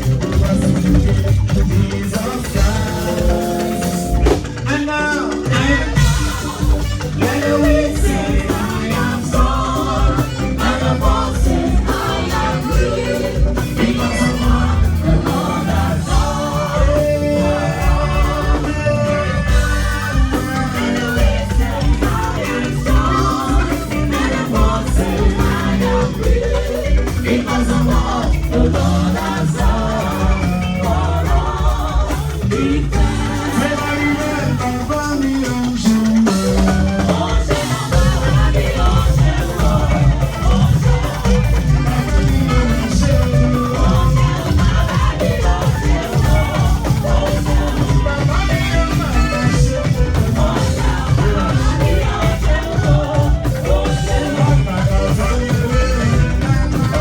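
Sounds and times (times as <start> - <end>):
drums and percussion: 0.0 - 57.0
gospel singing: 0.0 - 57.0
guitar: 0.0 - 57.0.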